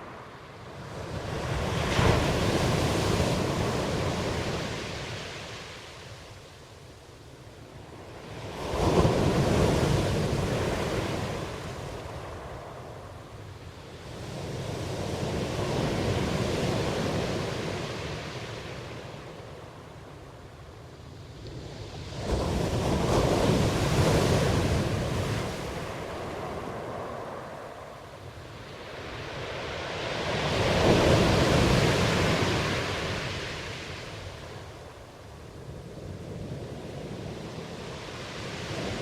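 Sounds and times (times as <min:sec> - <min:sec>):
ocean waves rolling in: 0:00.0 - 0:39.0.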